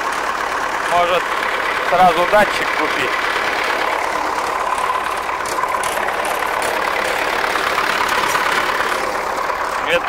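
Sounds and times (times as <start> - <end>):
tractor diesel engine idling: 0.0 - 10.0.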